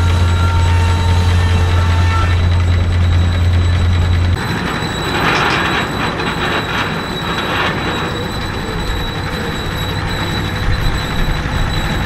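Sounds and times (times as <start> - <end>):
steam engine running: 0.0 - 12.0.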